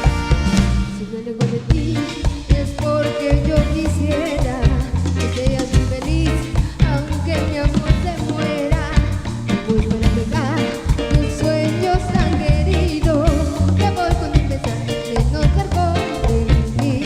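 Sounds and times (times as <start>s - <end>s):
salsa dance music: 0.0s - 17.0s.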